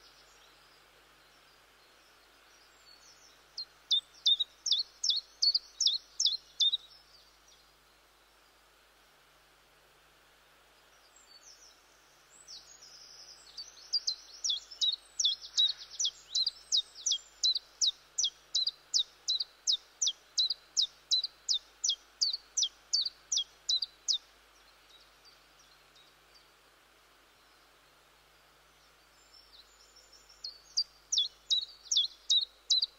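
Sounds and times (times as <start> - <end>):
low steady hiss: 0.0 - 32.9.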